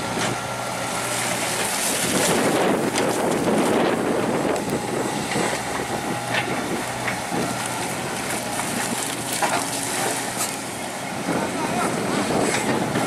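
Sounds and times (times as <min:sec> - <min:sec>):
heavy diesel machinery running: 0:00.0 - 0:13.0
wind buffeting microphone: 0:00.0 - 0:13.0.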